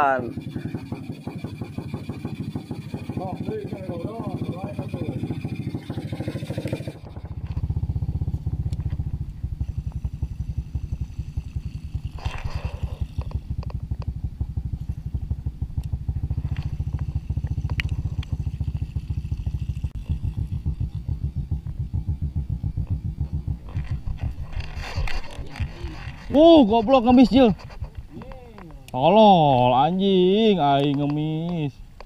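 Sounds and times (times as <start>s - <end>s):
small boat engine putter: 0.0s - 32.0s.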